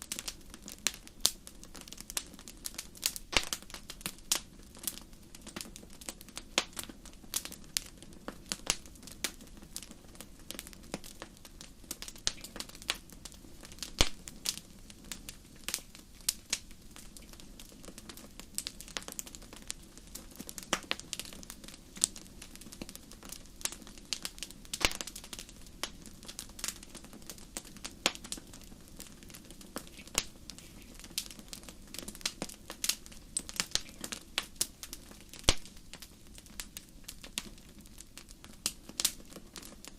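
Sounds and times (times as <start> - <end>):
campfire crackling and popping: 0.0 - 39.9
low rumble of burning fire: 0.0 - 39.9.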